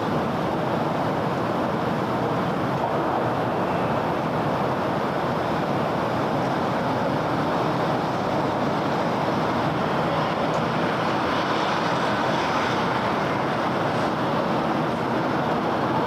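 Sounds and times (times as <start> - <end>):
city traffic noise: 0.0 - 16.0.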